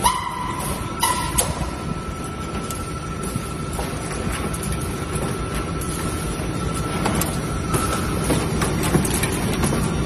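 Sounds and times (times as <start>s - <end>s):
high machine whine: 0.0s - 10.0s
machine clatter and rumble: 0.0s - 10.0s.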